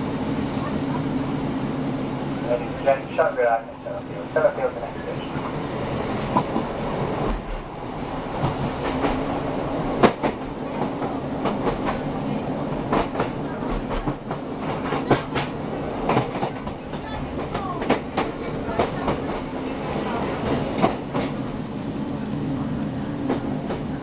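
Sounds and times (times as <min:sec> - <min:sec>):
train rumble and hum: 0:00.0 - 0:24.0.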